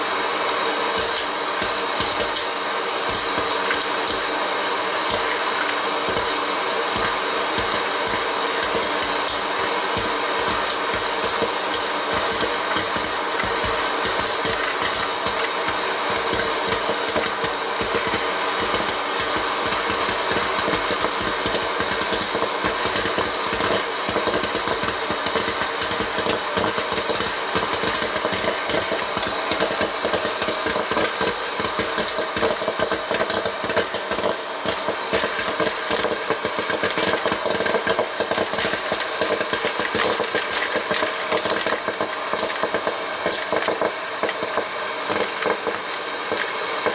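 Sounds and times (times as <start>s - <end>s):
hot air popper blower whir: 0.0s - 46.9s
popcorn kernels popping: 0.4s - 4.3s, 5.0s - 46.9s.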